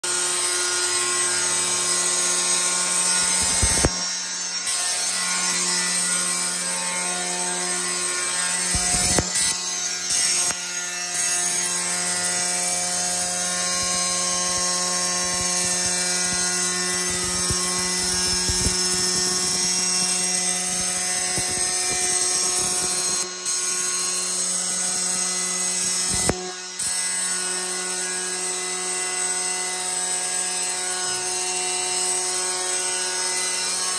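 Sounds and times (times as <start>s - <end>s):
tile saw cutting porcelain: 0.0s - 33.9s.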